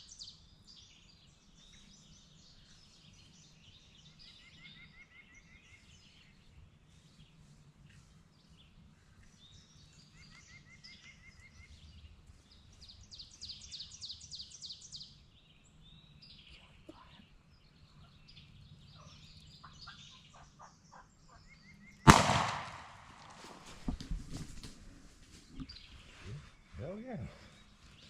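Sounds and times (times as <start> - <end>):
small birds singing: 0.0 - 24.4, 25.3 - 28.0.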